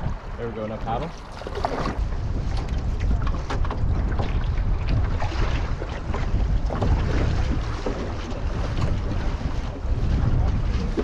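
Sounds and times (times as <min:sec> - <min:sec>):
paddle splashing water: 0:00.0 - 0:11.0
wind rumble on microphone: 0:00.0 - 0:11.0.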